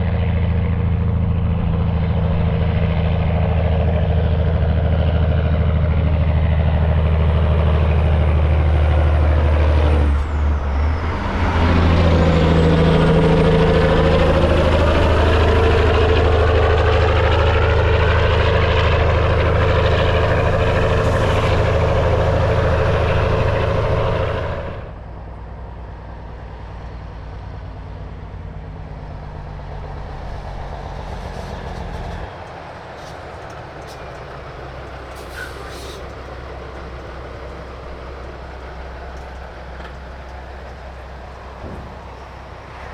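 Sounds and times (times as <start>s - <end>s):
semi truck engine running: 0.0s - 42.9s.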